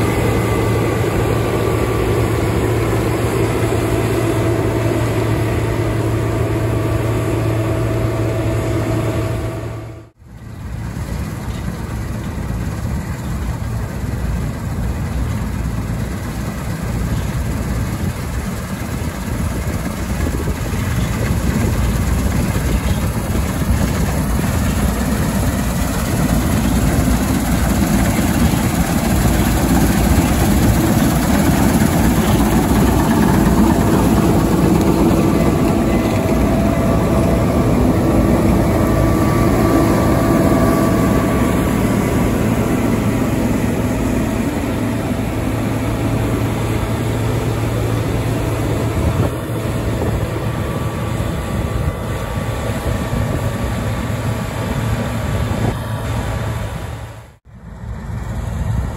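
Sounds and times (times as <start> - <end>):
combine harvester engine drone: 0.0 - 58.9.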